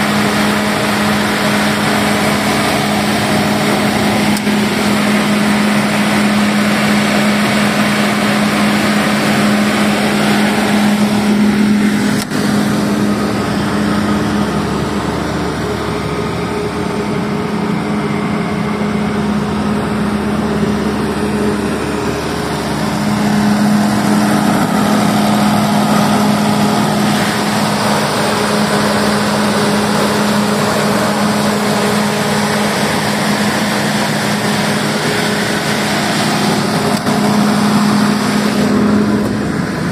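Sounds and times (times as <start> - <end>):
diesel generator humming: 0.0 - 39.9.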